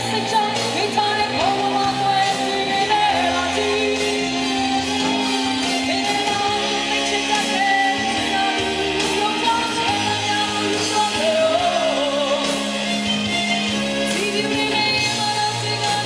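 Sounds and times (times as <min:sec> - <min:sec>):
live rock band playing: 0:00.0 - 0:16.0
woman singing into a microphone: 0:00.0 - 0:16.0.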